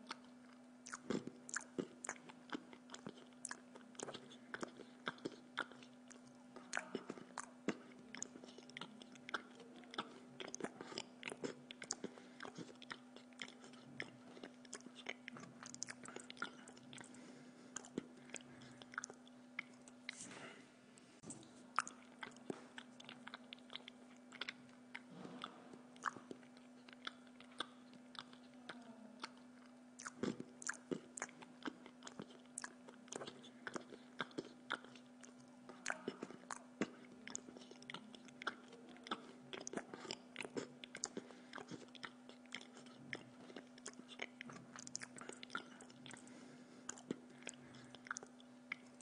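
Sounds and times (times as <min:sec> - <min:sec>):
person chewing pizza crust: 0:00.0 - 0:20.6, 0:21.2 - 0:49.0
steady low hum: 0:00.0 - 0:49.0.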